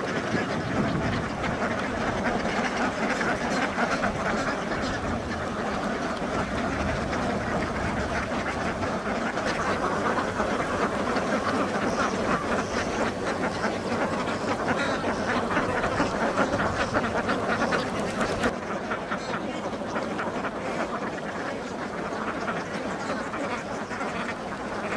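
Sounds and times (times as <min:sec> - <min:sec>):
ducks quacking: 0:00.0 - 0:24.9.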